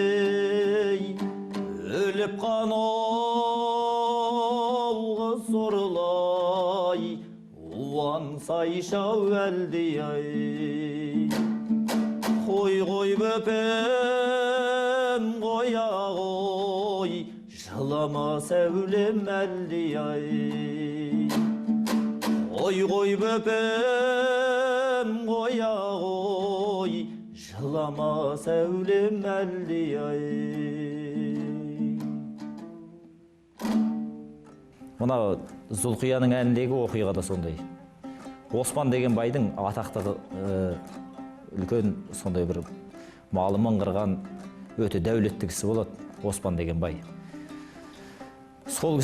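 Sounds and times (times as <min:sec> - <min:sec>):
person singing folk song: 0:00.0 - 0:49.0
plucked string accompaniment: 0:00.0 - 0:49.0.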